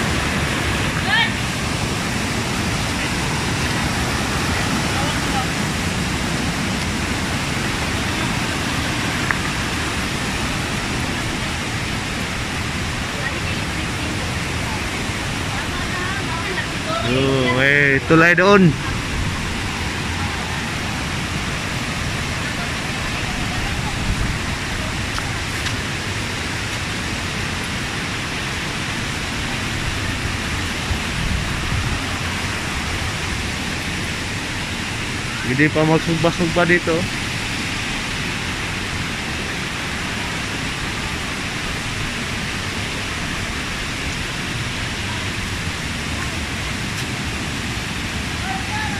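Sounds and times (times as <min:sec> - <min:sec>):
stream rushing over rocks: 0:00.0 - 0:48.9.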